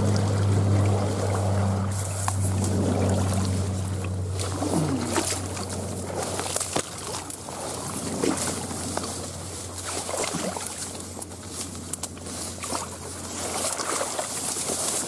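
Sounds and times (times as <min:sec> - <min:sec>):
shallow water sloshing: 0:00.0 - 0:15.0
steady low hum: 0:00.0 - 0:15.0.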